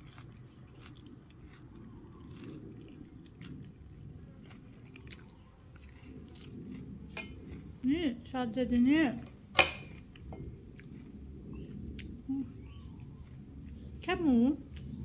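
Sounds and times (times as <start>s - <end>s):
person chewing noodles: 0.0s - 7.9s, 9.3s - 15.0s.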